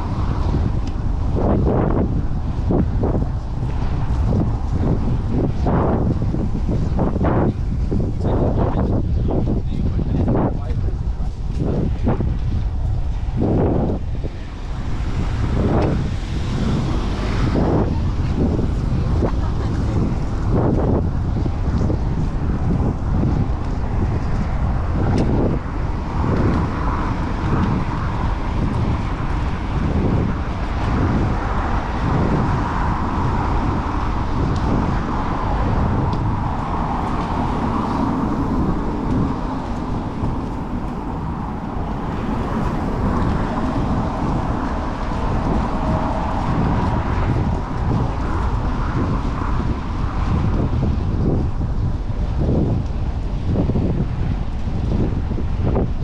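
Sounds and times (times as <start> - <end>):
passing cars: 0.0 - 56.0
wind buffeting microphone: 0.0 - 56.0.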